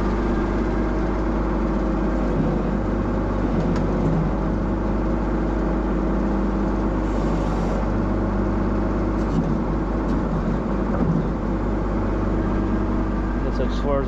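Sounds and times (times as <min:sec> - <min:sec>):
diesel engine running: 0:00.0 - 0:14.0
hydraulics moving: 0:00.0 - 0:14.0.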